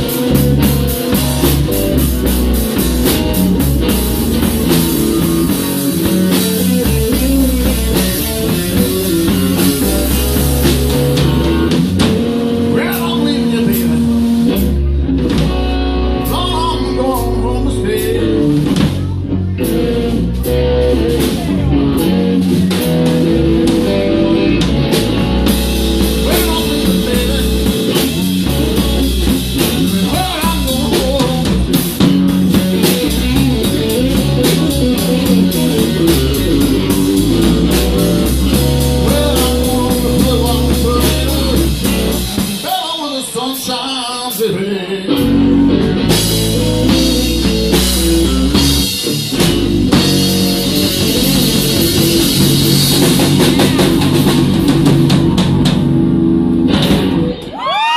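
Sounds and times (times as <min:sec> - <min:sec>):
drum kit: 0:00.0 - 0:57.9
electric bass: 0:00.0 - 0:57.9
electric guitar: 0:00.0 - 0:57.9.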